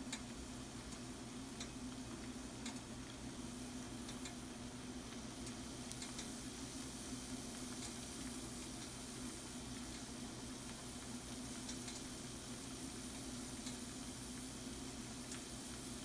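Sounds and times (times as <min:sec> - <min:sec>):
food sizzling in a frying pan: 0:00.1 - 0:16.0.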